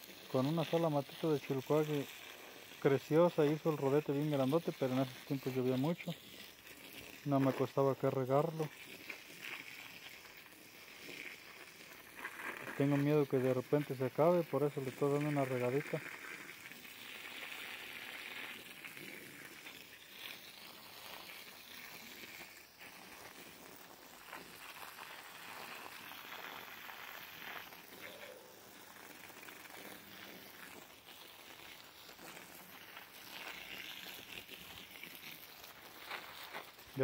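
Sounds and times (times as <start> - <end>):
hose water spattering on soil: 0.0 - 37.0.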